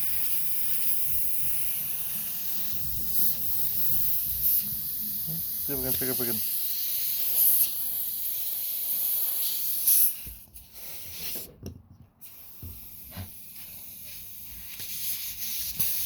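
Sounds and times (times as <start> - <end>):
air hissing out of tyre: 0.0 - 11.5, 12.2 - 16.0.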